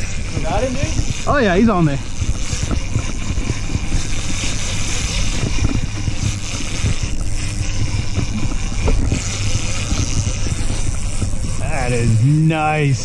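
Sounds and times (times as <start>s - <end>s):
outboard engine idling: 0.0s - 13.0s
wind on microphone: 0.0s - 13.0s.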